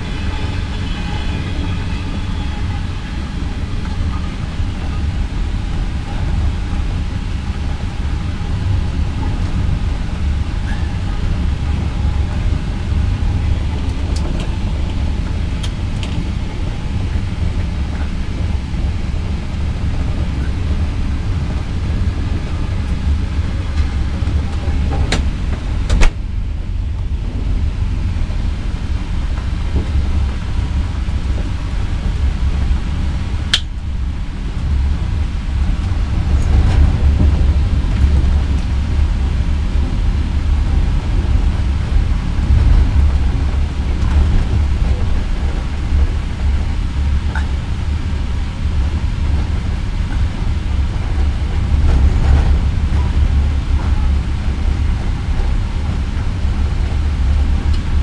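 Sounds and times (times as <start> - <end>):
train carriage rumbling on rails: 0.0 - 58.0.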